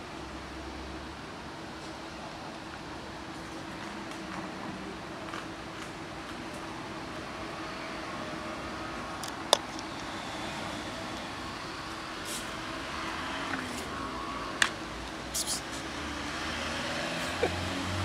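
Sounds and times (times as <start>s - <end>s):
street traffic: 0.0s - 18.0s
vehicle engine hum: 0.0s - 18.0s.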